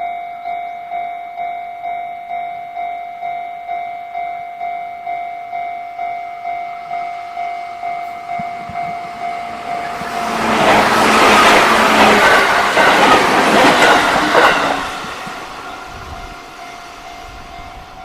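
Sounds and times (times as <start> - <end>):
electric train passing: 1.4 - 18.0.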